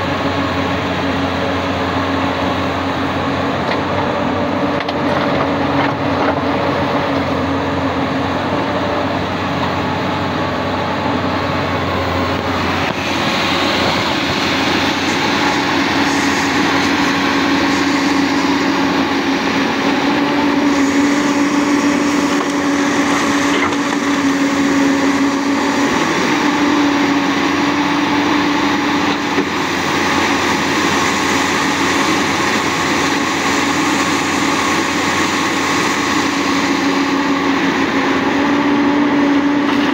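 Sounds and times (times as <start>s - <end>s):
excavator diesel engine drone: 0.0s - 39.9s.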